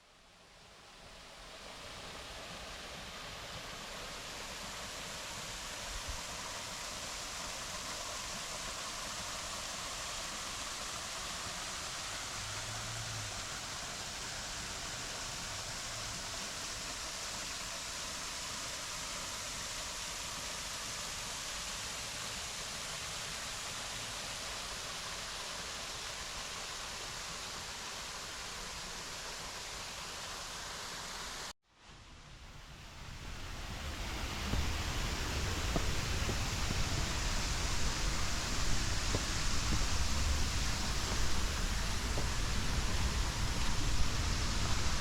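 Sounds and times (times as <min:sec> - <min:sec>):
waterfall rushing: 0:01.4 - 0:31.5, 0:32.8 - 0:45.0.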